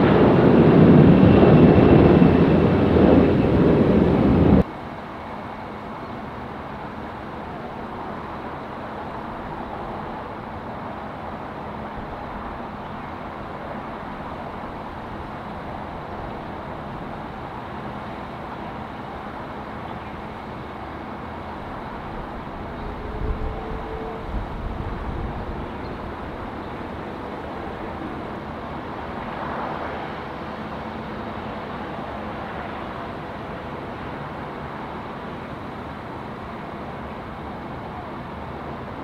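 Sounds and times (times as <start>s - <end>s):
jet engine rumble: 0.0s - 39.0s.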